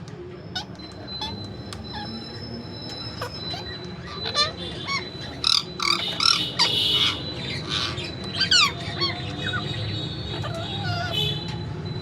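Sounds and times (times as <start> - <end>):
parrots squawking: 0.6 - 11.4
parrots whistled calls: 0.6 - 11.6.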